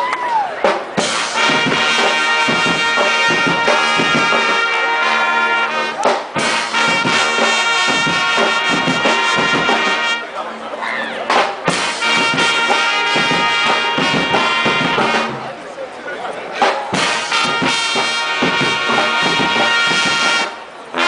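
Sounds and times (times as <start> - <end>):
brass band playing: 0.6 - 10.6, 11.3 - 15.6, 16.6 - 21.0.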